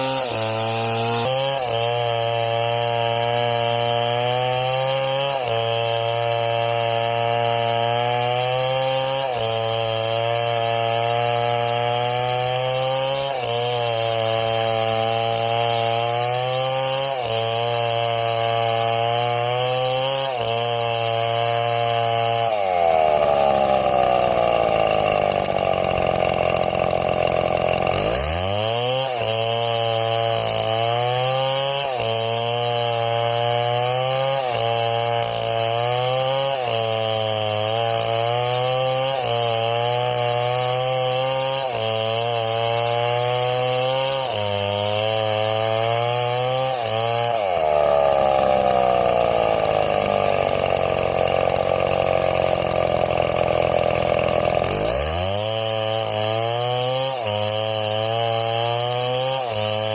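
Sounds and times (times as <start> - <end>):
chainsaw engine running: 0.0 - 59.9.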